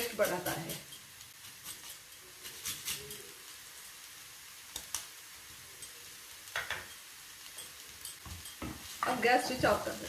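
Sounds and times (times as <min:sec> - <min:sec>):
chickpeas sizzling in a pan: 0:00.0 - 0:10.0.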